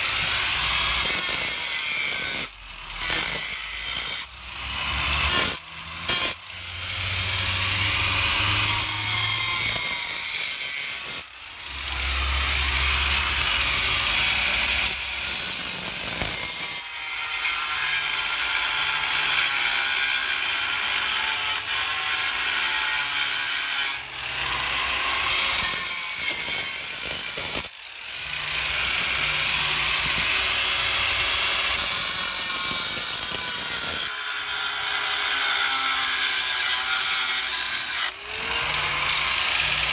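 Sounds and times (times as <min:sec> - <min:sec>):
angle grinder cutting stone: 0:00.0 - 0:39.9.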